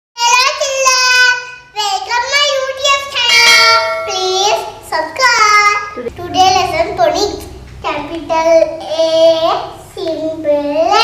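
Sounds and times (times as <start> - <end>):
child singing: 0.2 - 11.0.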